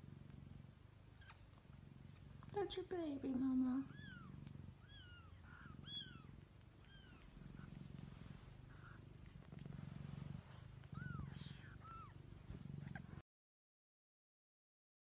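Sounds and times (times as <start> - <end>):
cat purring: 0.0 - 13.2.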